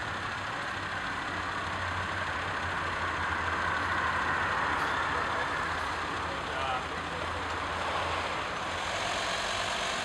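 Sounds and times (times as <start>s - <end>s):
car approaching: 0.0s - 10.0s
road traffic noise: 0.0s - 10.0s
vehicle engine idling: 0.0s - 10.0s.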